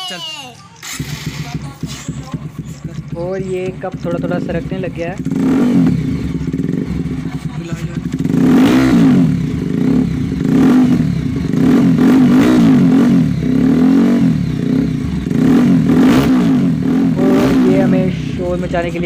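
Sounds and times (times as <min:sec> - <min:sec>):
motorcycle engine revving: 0:00.7 - 0:19.0.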